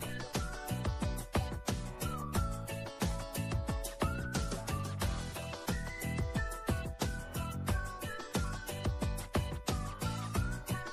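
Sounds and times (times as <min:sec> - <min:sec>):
background music with drum beat: 0:00.0 - 0:10.9.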